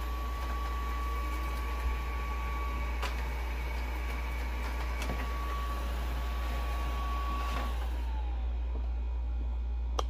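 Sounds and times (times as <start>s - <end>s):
robot vacuum high whine: 0.0s - 9.3s.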